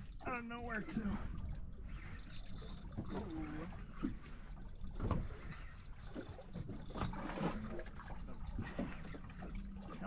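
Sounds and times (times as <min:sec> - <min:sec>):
water and wind rumble: 0:00.0 - 0:10.0.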